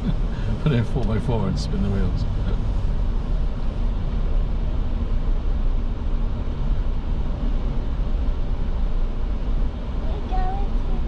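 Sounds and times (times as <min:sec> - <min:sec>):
truck engine and tyres rumble: 0:00.0 - 0:11.0.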